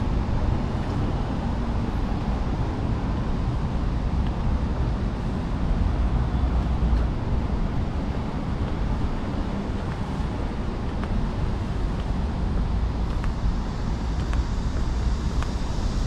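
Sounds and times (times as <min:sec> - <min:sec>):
road traffic rumble: 0:00.0 - 0:16.0
wind noise on microphone: 0:00.0 - 0:16.0.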